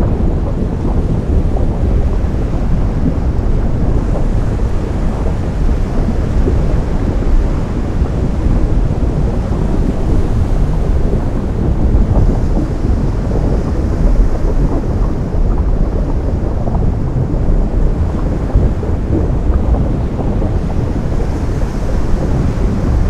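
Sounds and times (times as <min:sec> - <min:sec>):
ocean waves rumbling: 0:00.0 - 0:23.0.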